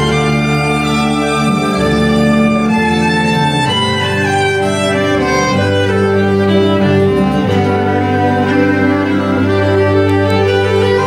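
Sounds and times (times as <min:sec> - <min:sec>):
low bass notes and chords: 0:00.0 - 0:11.0
violin bowed melody: 0:00.0 - 0:11.0.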